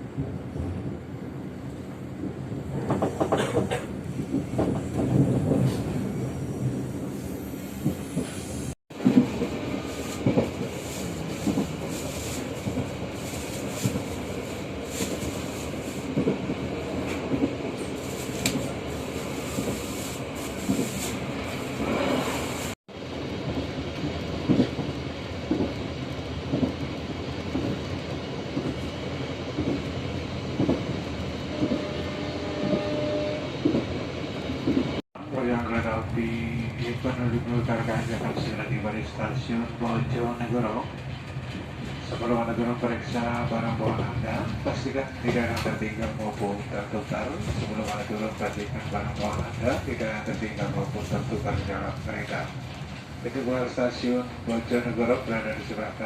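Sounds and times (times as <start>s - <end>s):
train carriage rumble: 0.0s - 56.0s.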